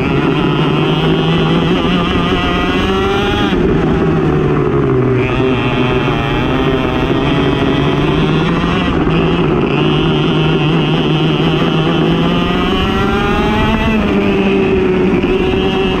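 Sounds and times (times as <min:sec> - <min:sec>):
go-kart engine at high revs: 0:00.0 - 0:16.0.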